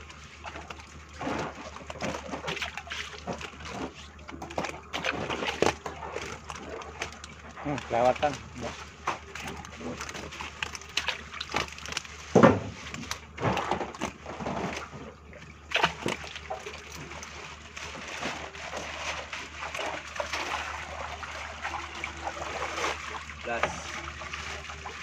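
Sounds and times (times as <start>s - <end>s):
water sloshing and splashing: 0.0s - 25.0s.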